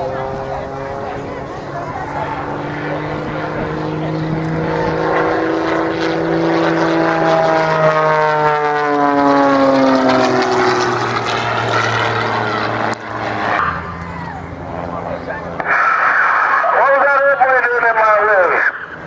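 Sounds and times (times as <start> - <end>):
propeller airplane engine passing: 0.0 - 19.0.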